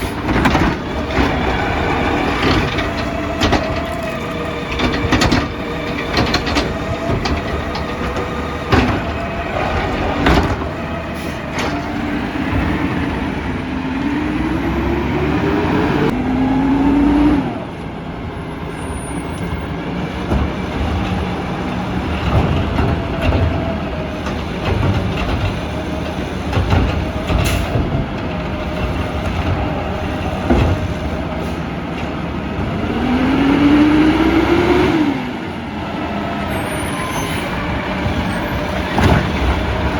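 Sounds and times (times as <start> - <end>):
garbage truck engine running: 0.0 - 16.5, 17.4 - 39.9.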